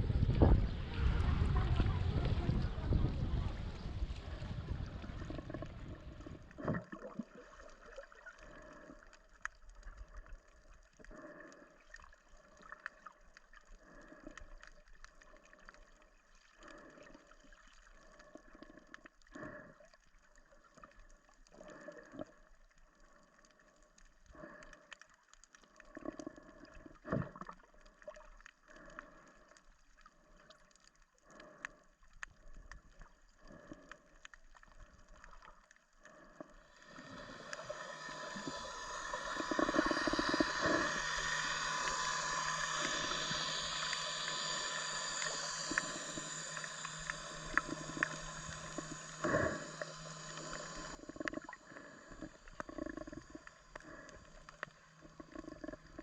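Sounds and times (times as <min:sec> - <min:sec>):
seawater lapping and gurgling: 0:00.0 - 0:56.0.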